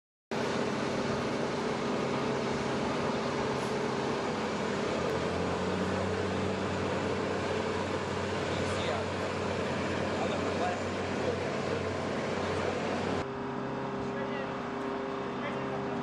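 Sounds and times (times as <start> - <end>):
aircraft machinery droning: 0.3 - 16.0.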